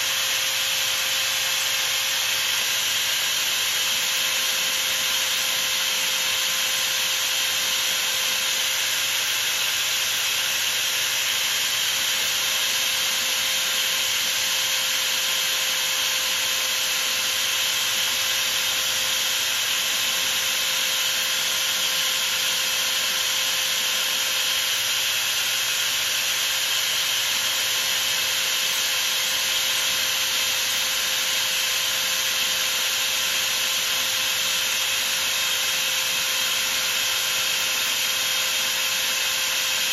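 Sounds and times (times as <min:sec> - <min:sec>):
lathe running: 0:00.0 - 0:39.9.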